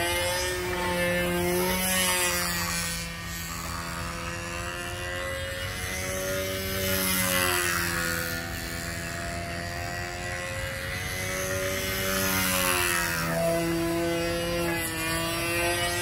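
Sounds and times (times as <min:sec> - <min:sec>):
model plane engine at full speed: 0:00.0 - 0:16.0.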